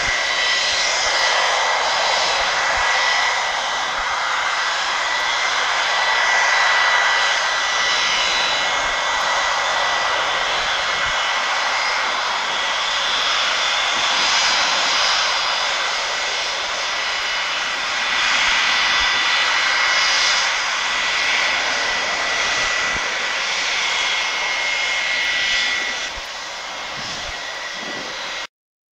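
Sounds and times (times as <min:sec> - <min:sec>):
jet engines whining: 0:00.0 - 0:28.5.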